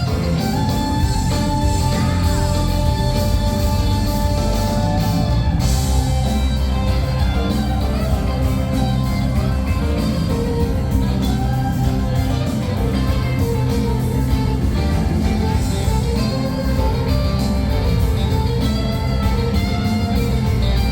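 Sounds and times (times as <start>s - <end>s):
guitar: 0.0s - 20.9s
steady bass line: 0.0s - 20.9s.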